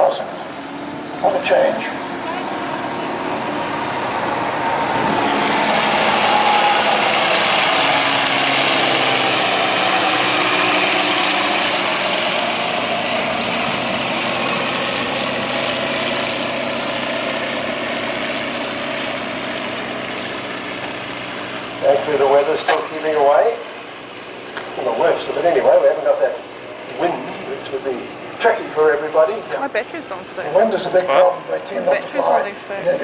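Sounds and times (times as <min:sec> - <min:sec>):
propeller plane flying past: 0:00.0 - 0:33.0.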